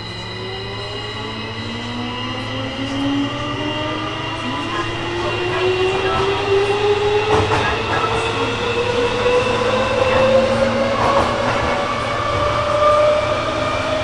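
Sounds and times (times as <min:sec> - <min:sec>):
electric train motor whine: 0:00.0 - 0:14.0
train running and rail noise: 0:00.0 - 0:14.0.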